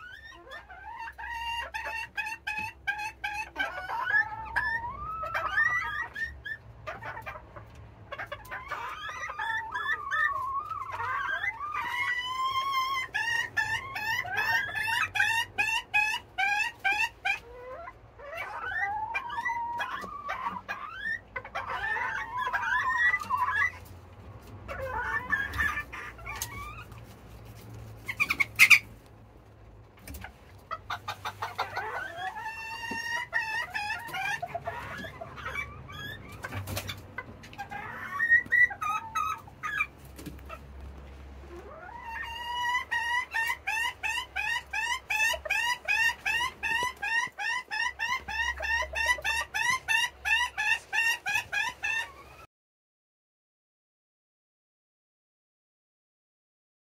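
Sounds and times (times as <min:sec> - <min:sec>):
chickens clucking and squawking: 0:00.0 - 0:52.5.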